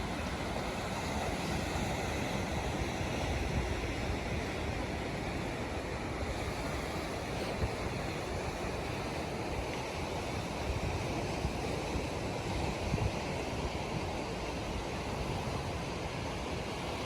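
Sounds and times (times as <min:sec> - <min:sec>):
waves rushing: 0:00.0 - 0:17.0
wind buffeting microphone: 0:00.0 - 0:17.0.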